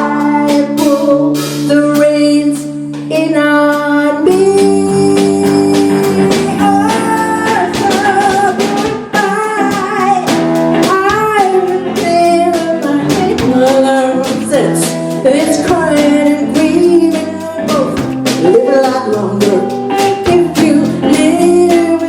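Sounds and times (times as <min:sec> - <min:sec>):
live band playing: 0:00.0 - 0:22.0
singing voice: 0:00.0 - 0:22.0.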